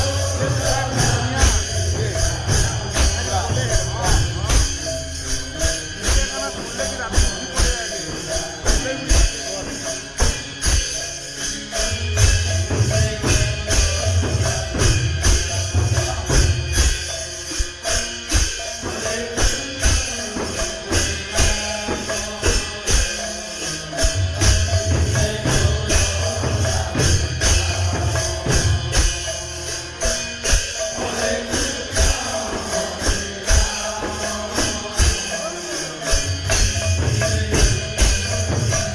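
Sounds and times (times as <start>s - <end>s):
drum beats: 0.0s - 38.9s
jingling percussion: 0.0s - 38.9s.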